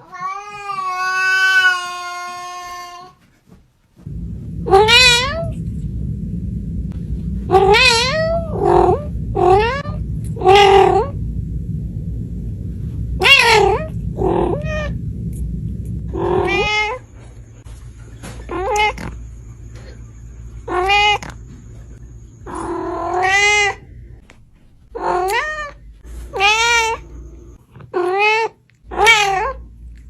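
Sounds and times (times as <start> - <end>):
low steady hum: 4.0 - 27.6, 28.9 - 30.0.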